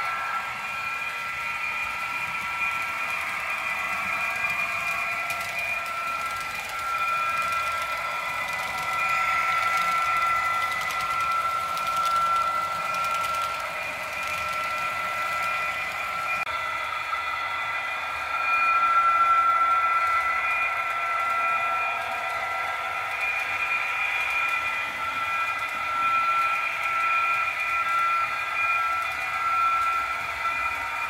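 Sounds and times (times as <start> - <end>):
model train motor whine: 0.0 - 31.0.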